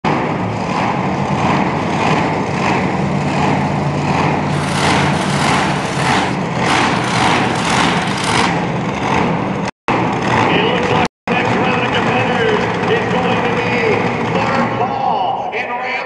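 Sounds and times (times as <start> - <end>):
truck engine humming: 0.0 - 15.0
harsh pulsing engine noise: 0.0 - 15.7.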